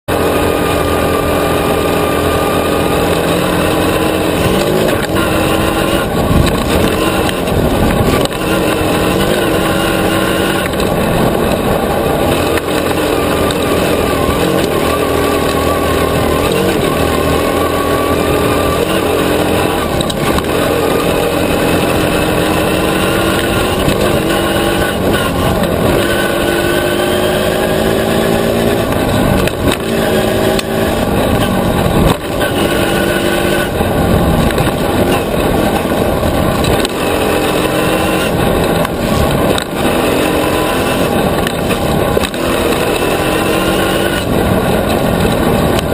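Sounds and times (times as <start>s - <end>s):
buggy engine revving: 0.0s - 45.9s.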